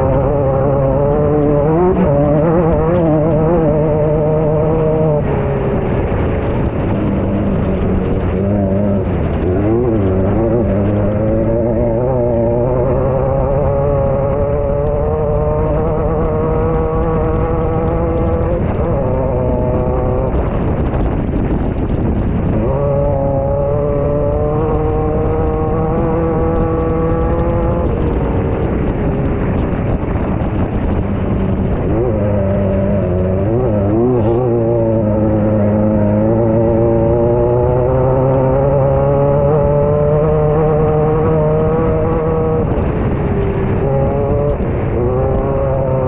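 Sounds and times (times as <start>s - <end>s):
buggy engine revving: 0.0s - 46.0s.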